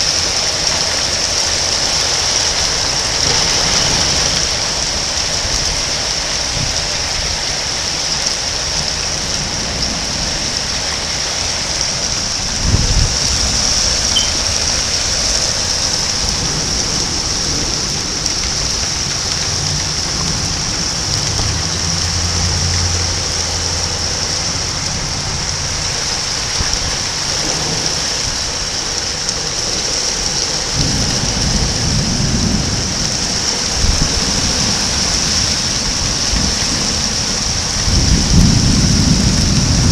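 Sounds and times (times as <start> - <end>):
steady rain: 0.0 - 39.9
low rumble of thunder: 2.4 - 5.8, 8.8 - 39.9.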